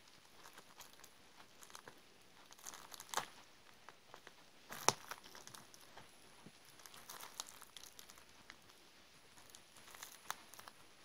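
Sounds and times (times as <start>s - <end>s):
plastic crinkling and crackling: 0.0s - 11.0s.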